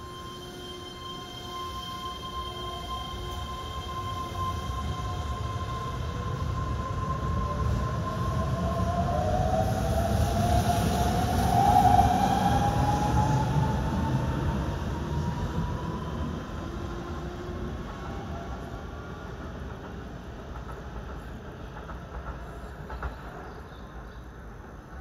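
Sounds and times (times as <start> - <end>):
wheels rumbling on rail: 2.3 - 25.0.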